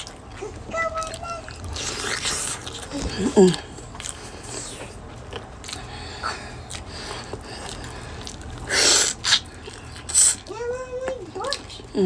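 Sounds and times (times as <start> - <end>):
person chewing: 0.0 - 10.5.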